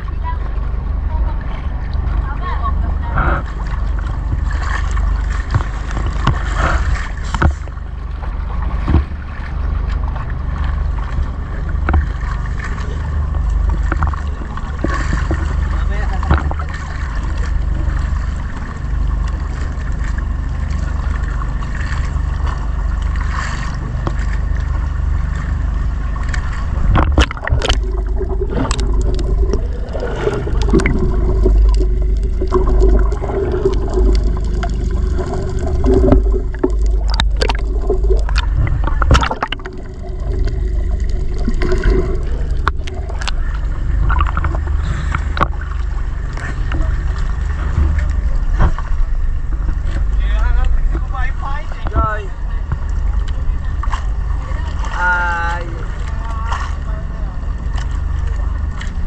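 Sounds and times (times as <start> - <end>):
low rumble: 0.0 - 59.0
water sloshing and gurgling: 0.0 - 59.0.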